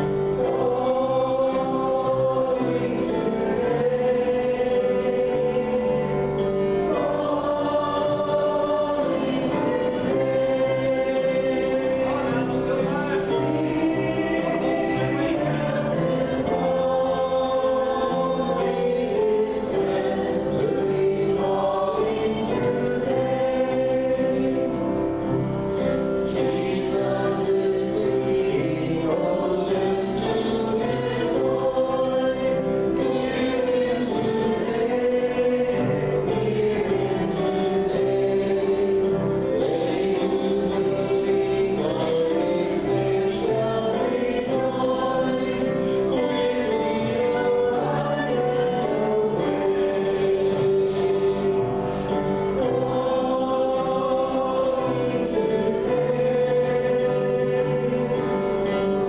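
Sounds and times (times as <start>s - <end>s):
choir and congregation singing: 0.0s - 59.0s.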